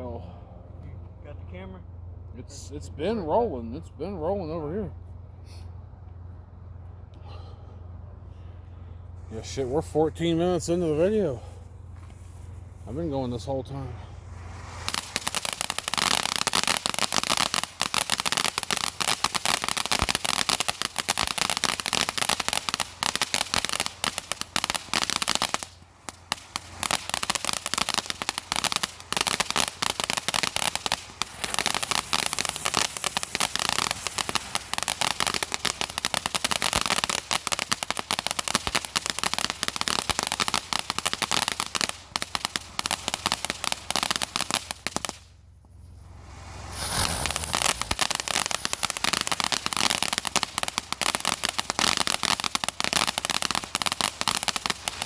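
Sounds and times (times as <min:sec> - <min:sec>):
firework crackling: 0:09.2 - 0:55.0.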